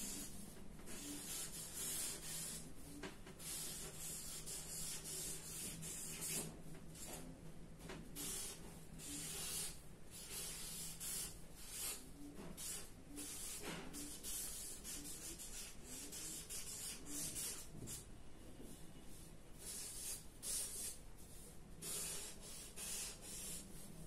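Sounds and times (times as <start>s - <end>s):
marker pen scratching on paper: 0.0s - 7.2s, 8.1s - 18.0s, 19.1s - 24.0s.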